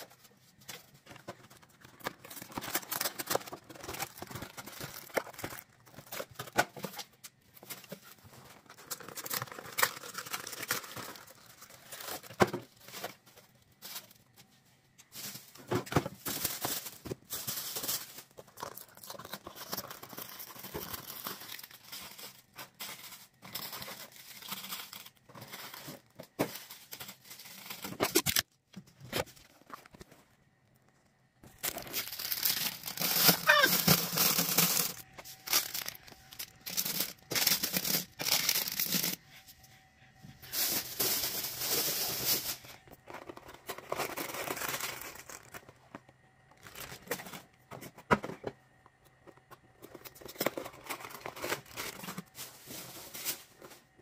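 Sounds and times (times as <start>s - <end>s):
plastic bags rustling: 0.0s - 28.5s, 31.4s - 39.2s, 40.4s - 48.0s, 49.4s - 54.0s
packages knocking and clicking: 0.0s - 39.2s, 40.3s - 54.0s.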